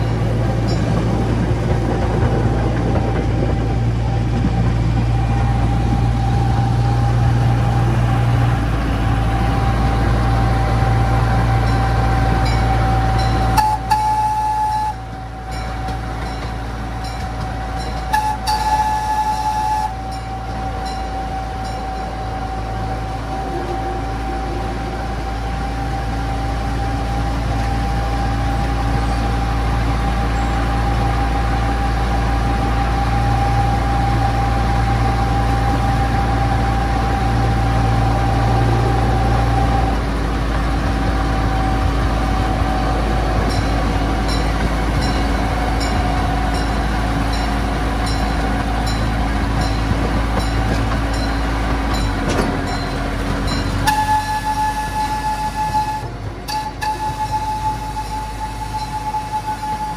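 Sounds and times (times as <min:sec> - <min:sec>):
miniature train engine rumble: 0:00.0 - 0:59.9
steady whine: 0:00.0 - 0:59.9.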